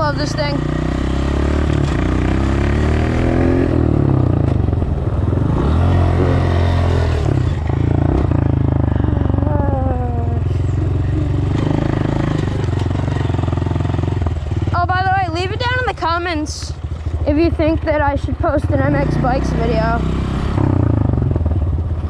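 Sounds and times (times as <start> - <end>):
dirt bike engine revving: 0.0 - 16.4, 17.0 - 21.5.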